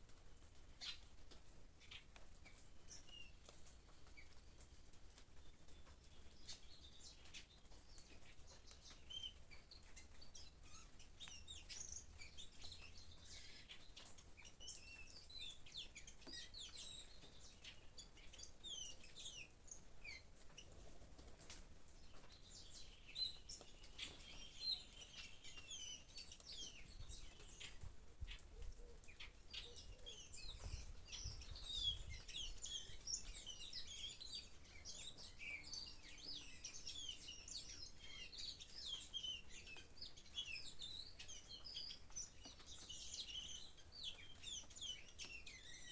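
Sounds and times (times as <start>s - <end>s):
faint rain pattering: 0.0s - 45.9s
small birds chirping: 0.0s - 45.9s.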